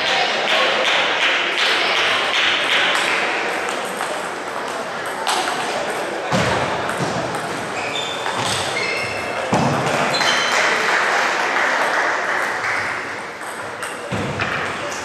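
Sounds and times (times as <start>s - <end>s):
murmur of busy hall: 0.0s - 15.0s.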